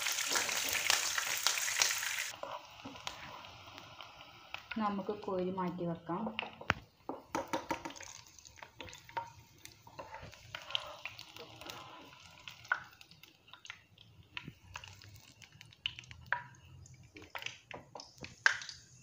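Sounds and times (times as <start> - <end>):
faint oil sizzle: 0.0 - 19.0.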